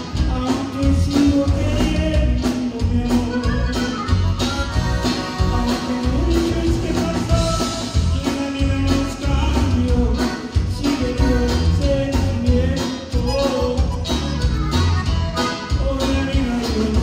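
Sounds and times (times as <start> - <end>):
accordion band playing dance music: 0.0 - 17.0.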